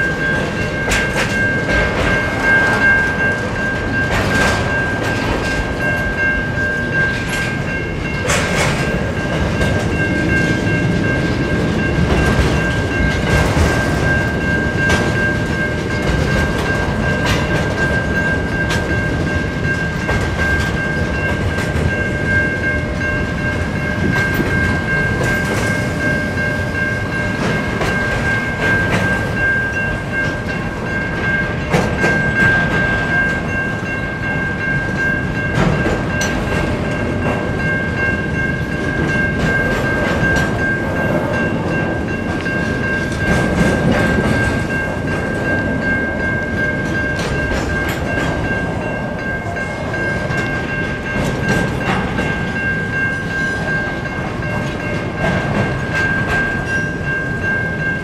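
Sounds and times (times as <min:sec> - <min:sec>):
train wheels rumbling and clacking: 0:00.0 - 0:58.0.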